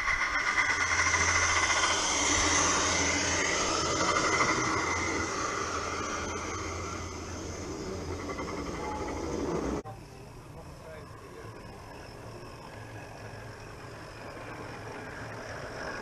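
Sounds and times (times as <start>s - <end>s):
steam locomotive passing: 0.0s - 16.0s
wheels on rails: 0.0s - 16.0s.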